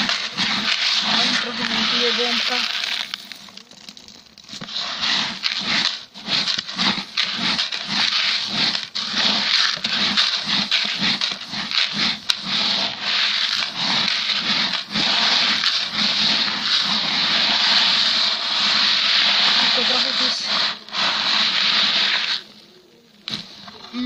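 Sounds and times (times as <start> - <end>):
dry grain rustling in a bucket: 0.0 - 24.0.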